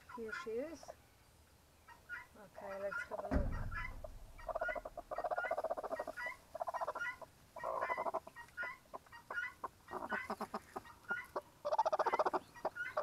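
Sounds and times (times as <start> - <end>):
hen growling and clucking: 1.9 - 13.0.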